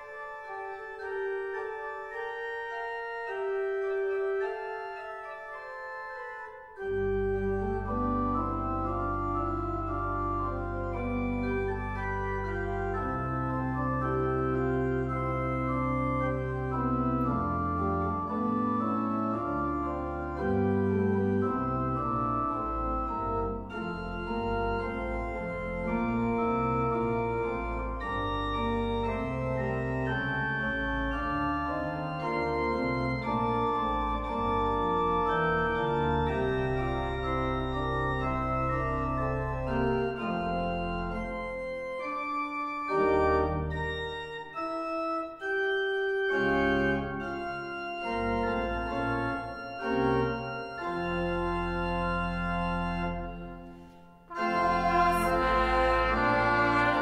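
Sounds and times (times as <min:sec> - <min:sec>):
church organ chords: 0:00.0 - 0:57.0
deep organ pedal bass notes: 0:00.0 - 0:57.0.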